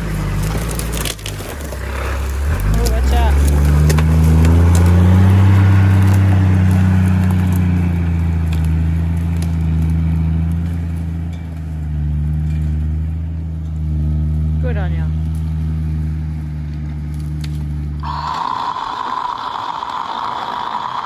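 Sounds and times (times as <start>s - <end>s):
sticks cracking under tyres: 0.0s - 21.0s
vehicle engine running: 0.0s - 21.0s.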